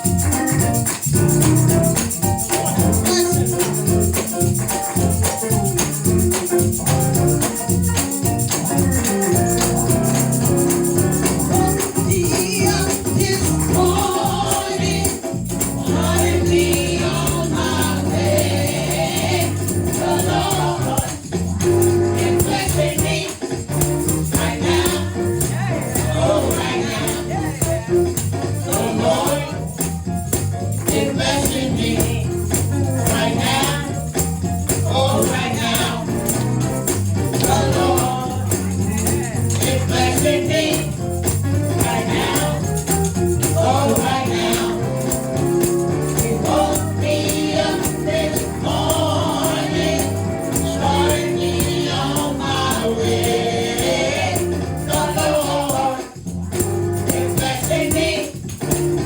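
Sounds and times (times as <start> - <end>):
choir singing gospel song: 0.0 - 59.0
live band accompaniment: 0.0 - 59.0.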